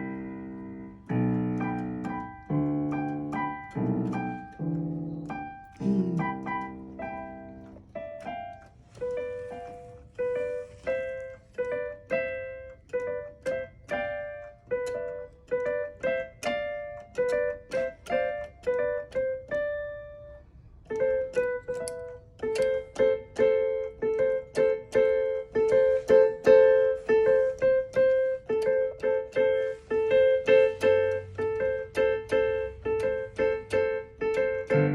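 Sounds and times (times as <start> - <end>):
piano single notes: 0.0 - 34.9.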